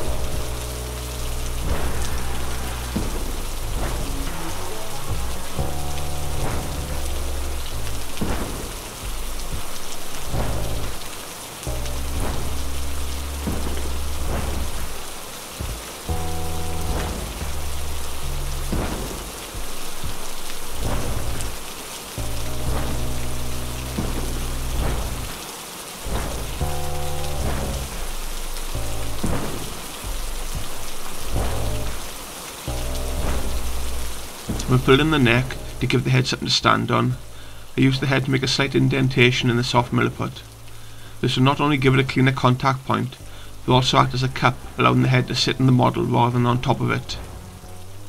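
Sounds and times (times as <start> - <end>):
dark ambient music: 0.0 - 48.0
rain-like hiss: 0.0 - 48.0.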